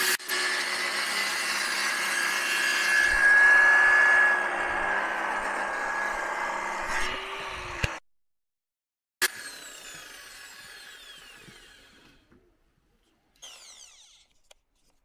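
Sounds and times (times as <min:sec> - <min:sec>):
power tool cutting wood: 0:00.0 - 0:08.0, 0:09.2 - 0:12.3, 0:13.4 - 0:14.4.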